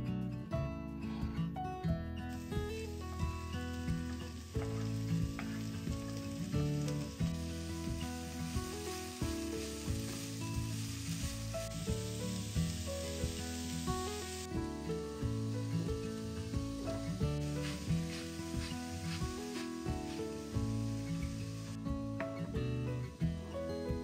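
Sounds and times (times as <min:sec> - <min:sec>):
soft background music: 0:00.0 - 0:24.0
vegetables sizzling in a pan: 0:02.3 - 0:24.0.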